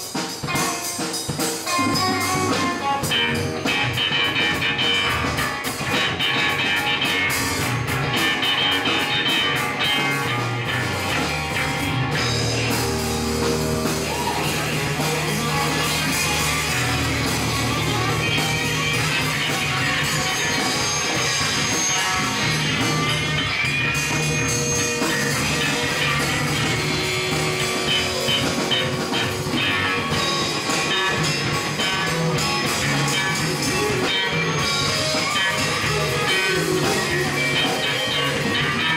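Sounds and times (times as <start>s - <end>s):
drum kit: 0.0s - 38.9s
electric guitars: 0.0s - 38.9s.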